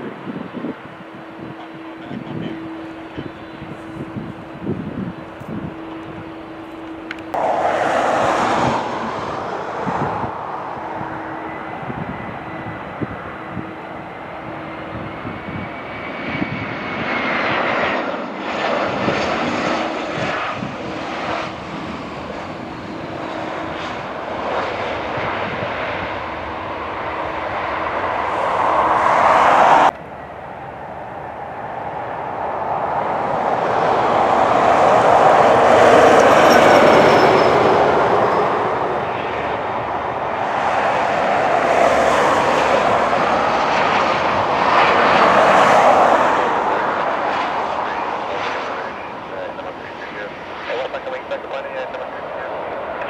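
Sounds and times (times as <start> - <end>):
airliner on approach: 0.0 - 53.0
jet airliner landing: 0.0 - 53.0.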